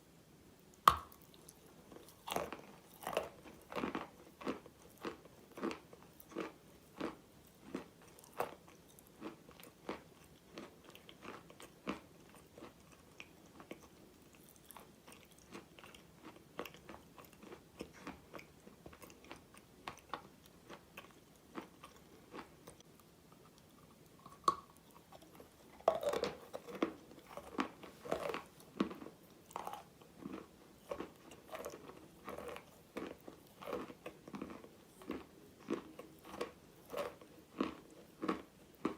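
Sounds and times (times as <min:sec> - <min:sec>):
chewing crunchy mineral pieces: 0:00.9 - 0:38.9.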